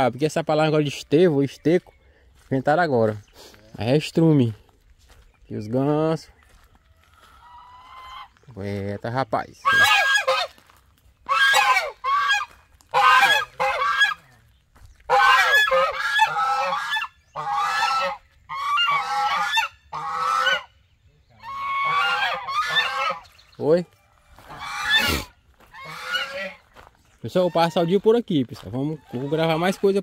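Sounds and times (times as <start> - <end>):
geese honking: 5.1 - 30.0.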